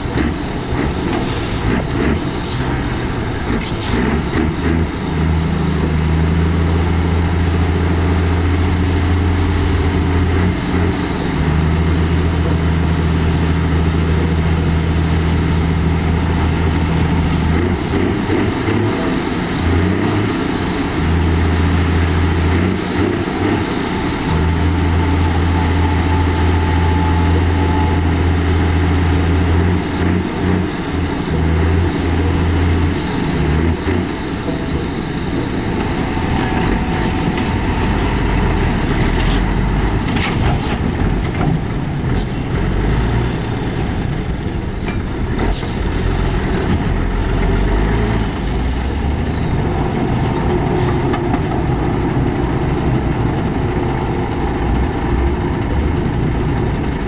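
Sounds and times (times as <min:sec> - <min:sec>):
diesel construction machinery engine: 0:00.0 - 0:57.0.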